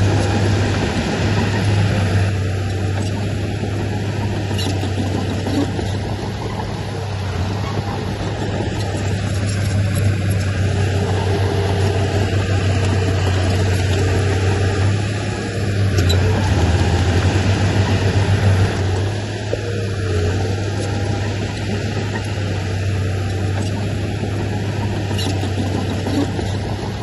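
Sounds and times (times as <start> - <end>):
diesel engine of heavy machinery: 0.0 - 27.0.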